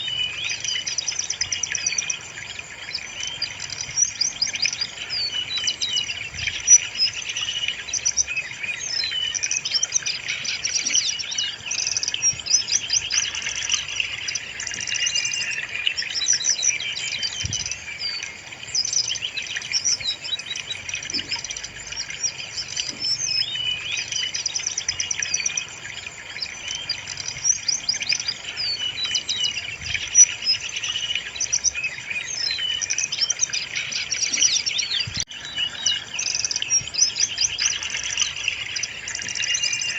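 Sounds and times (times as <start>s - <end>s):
recorded bird song chirps and trills: 0.0s - 39.9s.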